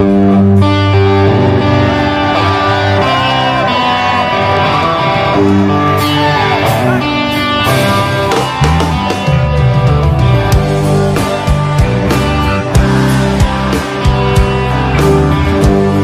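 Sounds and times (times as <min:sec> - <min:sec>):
electric guitar lead: 0:00.0 - 0:16.0
live rock band: 0:00.0 - 0:16.0.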